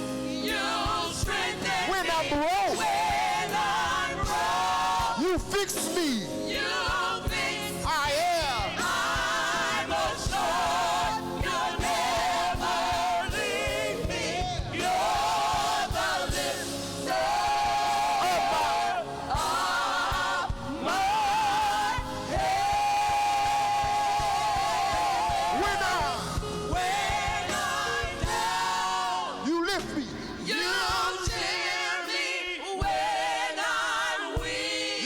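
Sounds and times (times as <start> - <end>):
band accompaniment: 0.0 - 35.0
gospel choir singing: 0.0 - 35.0.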